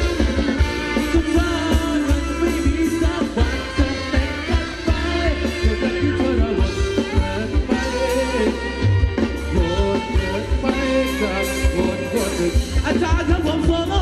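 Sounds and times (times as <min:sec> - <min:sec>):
band music with steady beat: 0:00.0 - 0:14.0.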